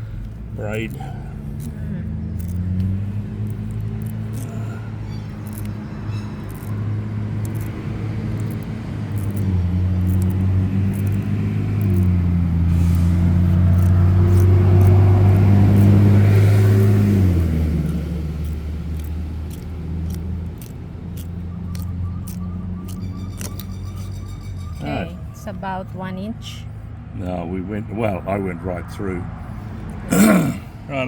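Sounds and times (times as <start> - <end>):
vehicle engine humming: 0.0 - 31.0.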